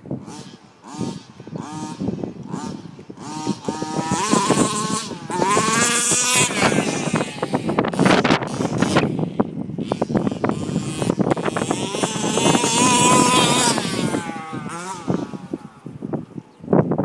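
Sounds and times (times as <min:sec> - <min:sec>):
wind buffeting microphone: 0:00.0 - 0:17.0
toy car motor revving: 0:00.2 - 0:16.5.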